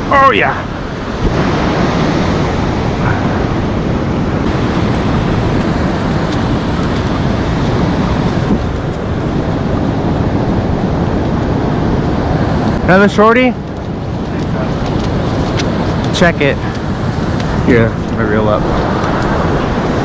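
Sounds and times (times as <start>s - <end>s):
ocean surf: 0.0s - 20.0s
wind buffeting microphone: 0.0s - 20.0s.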